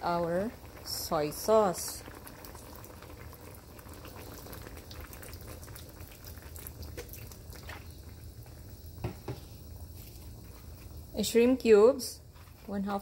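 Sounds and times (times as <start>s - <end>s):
broth boiling and popping: 0.0s - 13.0s.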